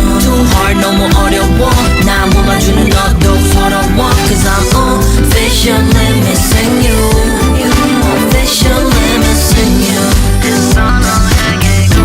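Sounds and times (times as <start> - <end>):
pop song with beat and bass: 0.0 - 12.0.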